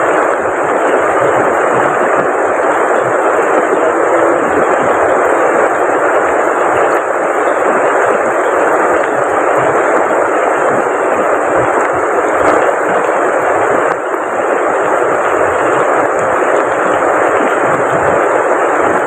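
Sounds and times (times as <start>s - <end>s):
heavy rain: 0.0s - 19.0s
rushing river water: 0.0s - 19.0s.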